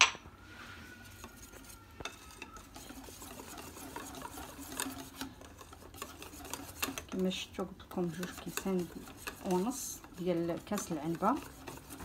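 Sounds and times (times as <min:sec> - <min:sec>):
whisk stirring batter: 0:00.8 - 0:12.0
whisk wires clicking against bowl: 0:01.2 - 0:12.0.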